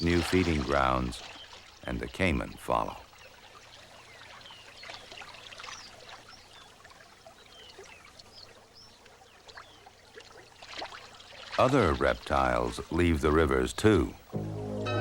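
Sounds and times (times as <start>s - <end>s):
water trickling and splashing: 0.0s - 14.4s.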